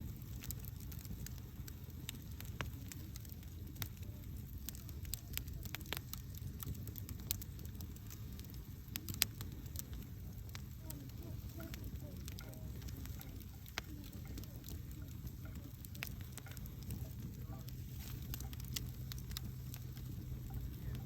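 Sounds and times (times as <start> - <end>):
campfire flames rumbling: 0.0 - 21.0
fire crackling and popping: 0.0 - 21.0.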